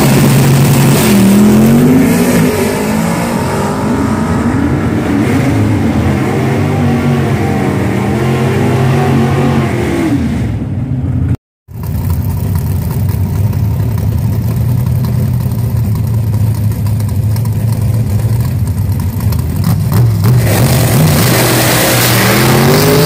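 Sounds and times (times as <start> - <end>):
race car engine: 0.0 - 23.0.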